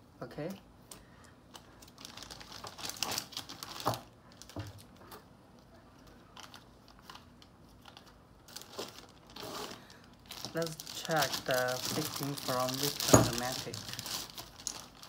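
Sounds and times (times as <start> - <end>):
plastic bags crinkling: 1.5 - 5.0, 6.0 - 15.0.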